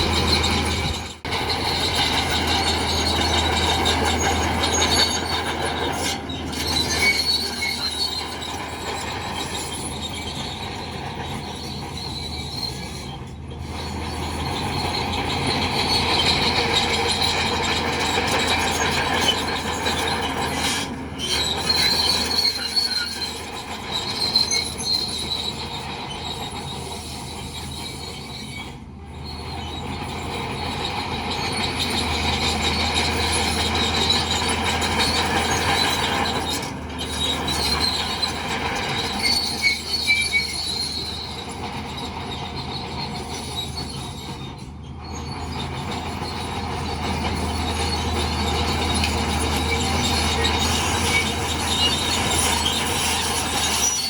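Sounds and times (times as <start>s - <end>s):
diesel engine running: 0.0s - 54.0s
steel tracks squealing and clattering: 0.0s - 54.0s.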